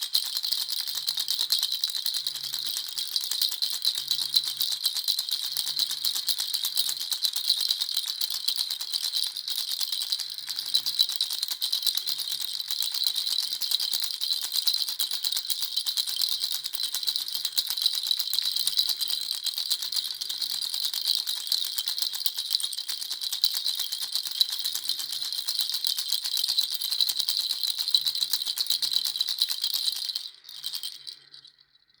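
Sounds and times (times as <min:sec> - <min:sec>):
baby rattle shaking: 0:00.0 - 0:31.9.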